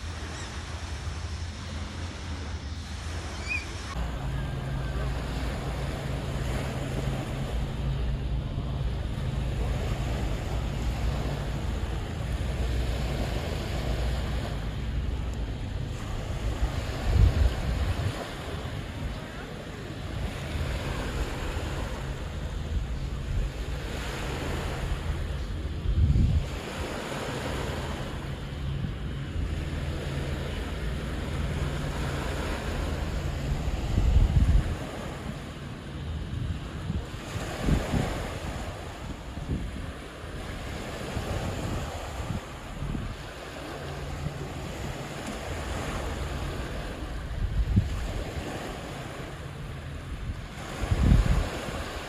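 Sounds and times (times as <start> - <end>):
small waves washing onto shore: 0.0 - 52.0
wind buffeting microphone: 0.0 - 52.0.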